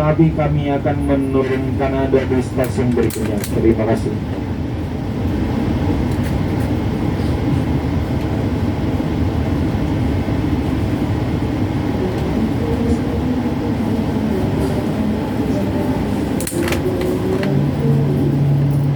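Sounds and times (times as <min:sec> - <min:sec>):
train carriage low rumble: 0:00.0 - 0:18.9.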